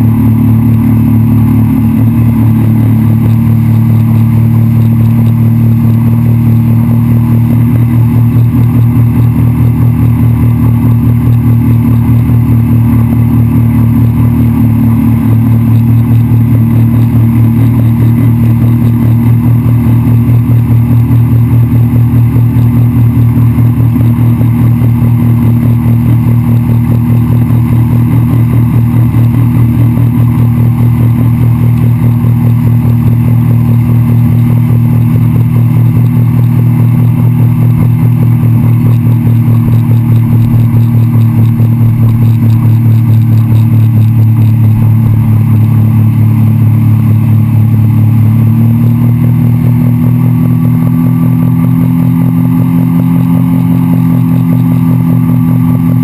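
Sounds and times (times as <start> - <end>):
boat wake and spray rushing: 0.0 - 56.0
outboard motor running: 0.0 - 56.0.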